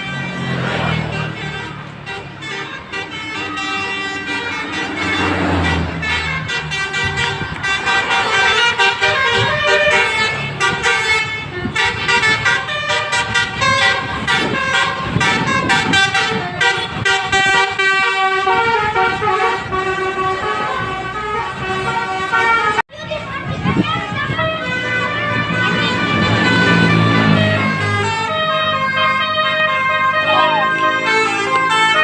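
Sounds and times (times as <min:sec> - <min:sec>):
multi-tone bus horn playing a tune: 0:00.0 - 0:32.0.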